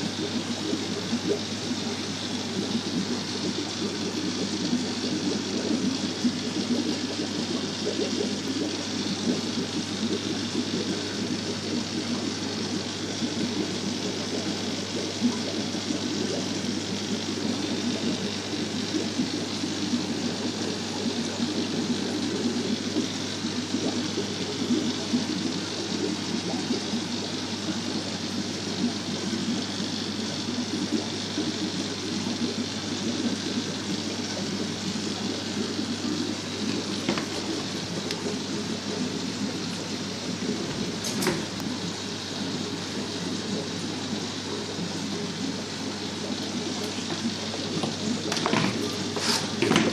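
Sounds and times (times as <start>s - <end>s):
water bubbling in fish tanks: 0.0s - 49.9s.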